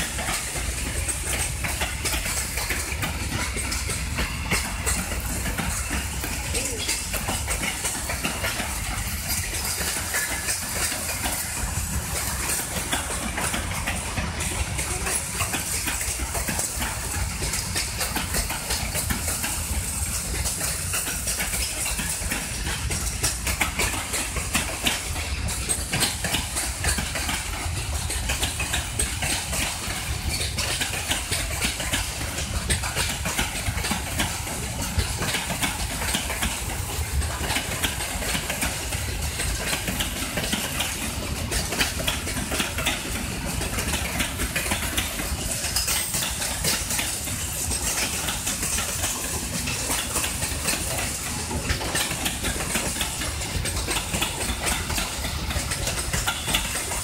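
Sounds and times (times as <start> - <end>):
light clatter of wagons: 0.0 - 57.0
train wheels rumbling on rail: 0.0 - 57.0.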